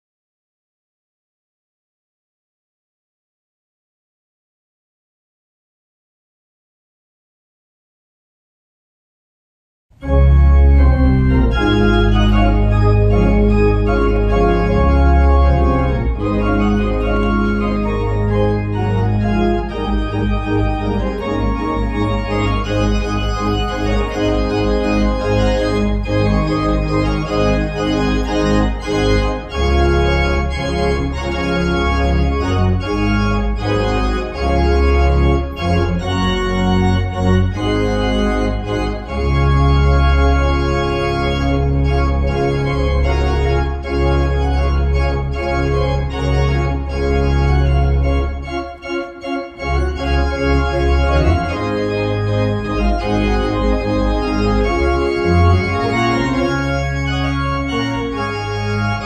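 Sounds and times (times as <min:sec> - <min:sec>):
church organ chords: 0:10.0 - 0:59.0.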